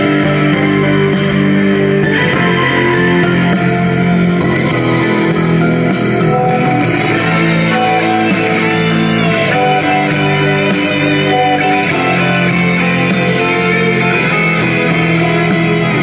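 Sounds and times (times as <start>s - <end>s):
loud music from speaker: 0.0s - 16.0s.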